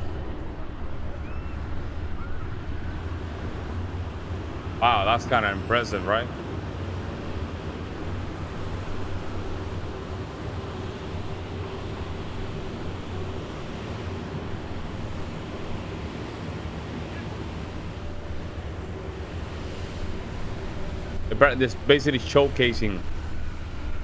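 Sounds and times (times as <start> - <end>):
low constant drone: 0.0 - 24.0
wind and water rushing: 0.0 - 24.0.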